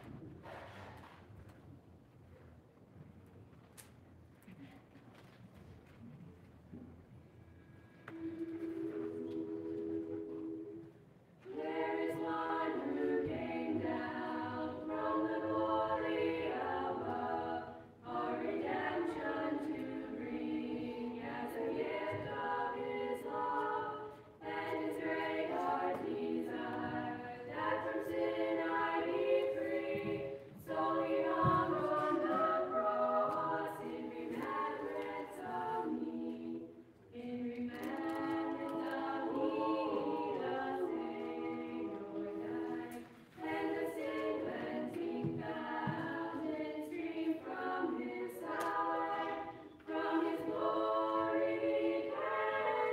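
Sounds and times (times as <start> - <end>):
children's choir singing a cappella: 8.0 - 52.9.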